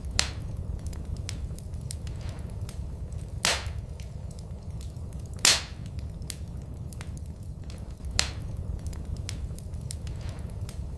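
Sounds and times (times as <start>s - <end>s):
loud fire pops: 0.0s - 10.9s
wood fire crackling: 0.0s - 10.9s.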